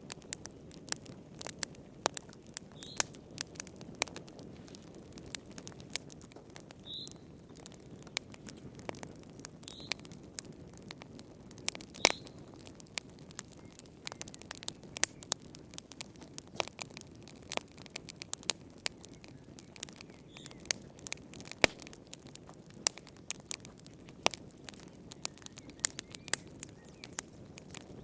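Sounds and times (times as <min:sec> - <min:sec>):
wood fire pops and snaps: 0:00.0 - 0:28.0
flame rushing: 0:00.1 - 0:06.8, 0:07.5 - 0:28.0.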